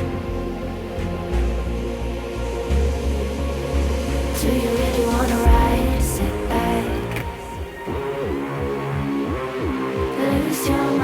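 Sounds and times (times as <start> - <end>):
sliding bass notes: 0.0 - 10.4
held synth chords: 0.0 - 11.0.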